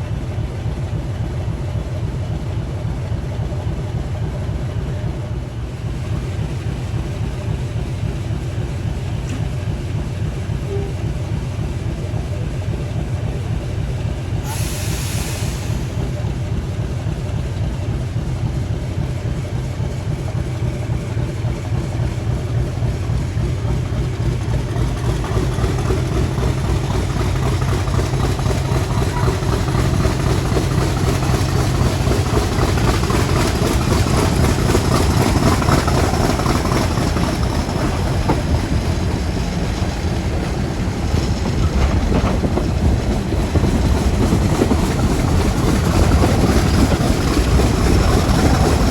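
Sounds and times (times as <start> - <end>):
diesel locomotive engine: 0.0 - 48.9.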